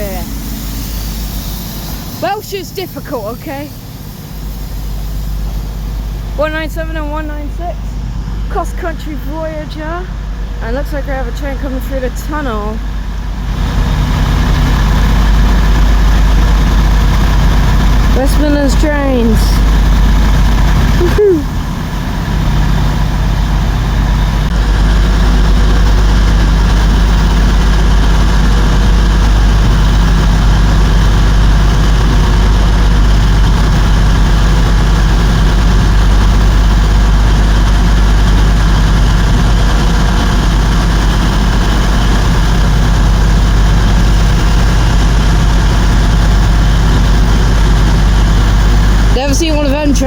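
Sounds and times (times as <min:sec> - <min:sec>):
diesel train engine idling: 0:00.0 - 0:50.0.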